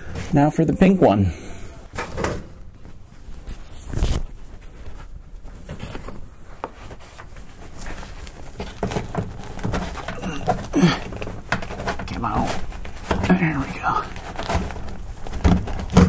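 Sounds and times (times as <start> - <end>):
cloth rustling: 1.8 - 16.0.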